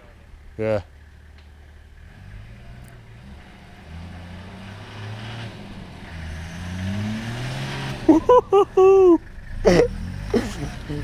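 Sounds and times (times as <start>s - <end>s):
engine revving under load: 1.3s - 11.0s.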